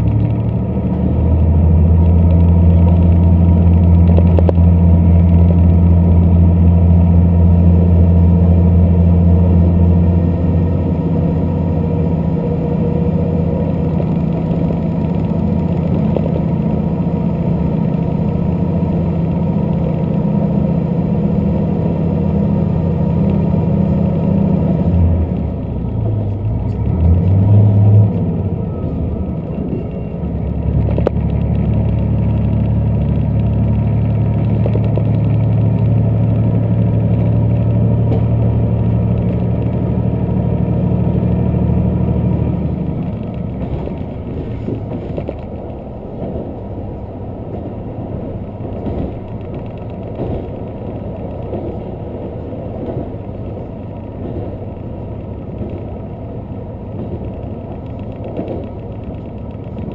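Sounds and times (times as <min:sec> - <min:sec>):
train engine drone: 0:00.0 - 0:59.9.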